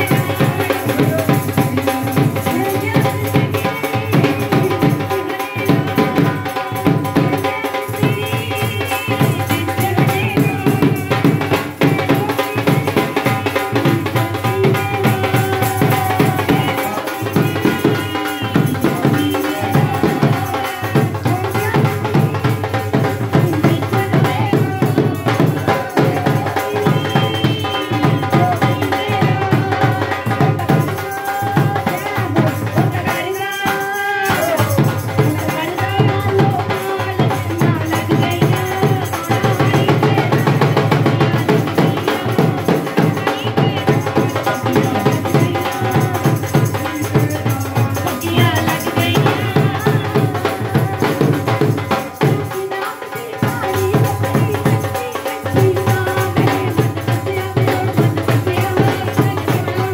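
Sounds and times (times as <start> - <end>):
fast steady drum beat: 0.0 - 59.9
jingling percussion: 0.0 - 59.9.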